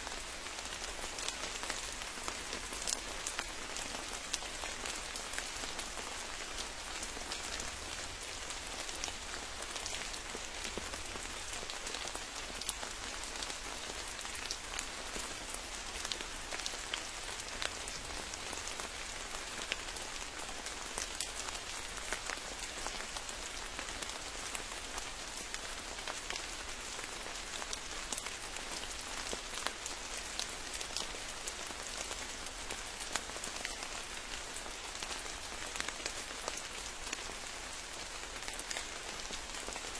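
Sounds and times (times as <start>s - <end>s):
raindrops ticking on leaves: 0.0s - 39.9s
steady rain hiss: 0.0s - 39.9s.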